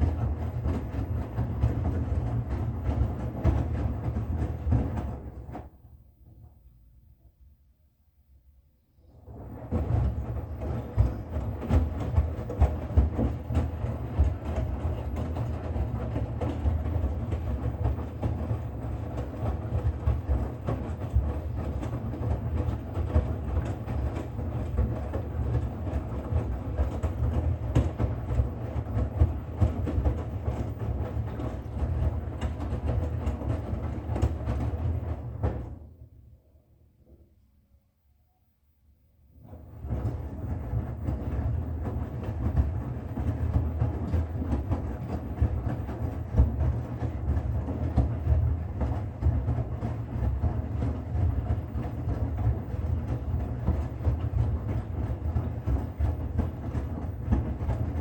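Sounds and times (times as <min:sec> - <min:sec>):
washing machine running: 0:00.0 - 0:06.5, 0:09.2 - 0:36.0, 0:39.3 - 0:58.0.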